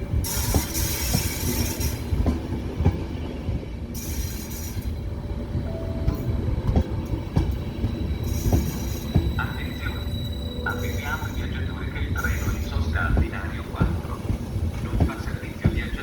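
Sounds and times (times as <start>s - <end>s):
train rolling with low rumble: 0.0s - 16.0s.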